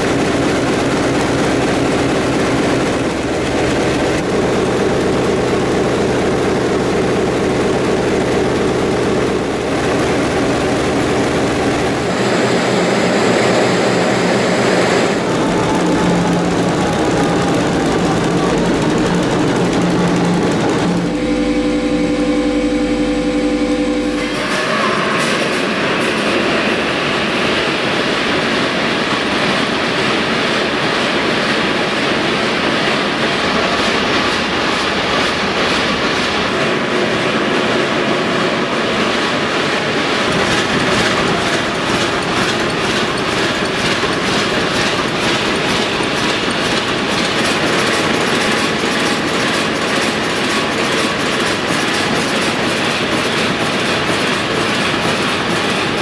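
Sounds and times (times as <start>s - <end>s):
large engine clattering: 0.0s - 21.4s, 24.1s - 56.0s.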